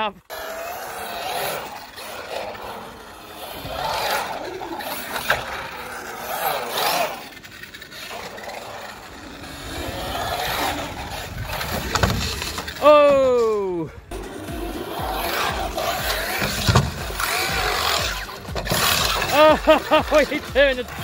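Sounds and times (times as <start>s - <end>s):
tyres scraping on concrete: 0.2s - 21.0s.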